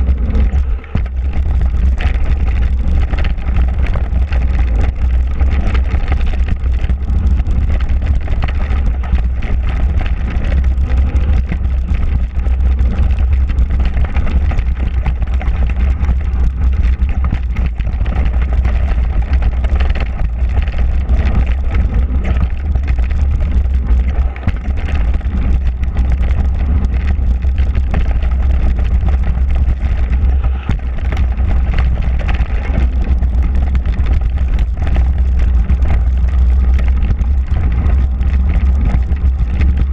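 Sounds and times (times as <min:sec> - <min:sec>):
bike rattles and knocks: 0:00.0 - 0:39.9
tyres rolling on dirt: 0:00.0 - 0:39.9
wind on microphone: 0:00.0 - 0:39.9.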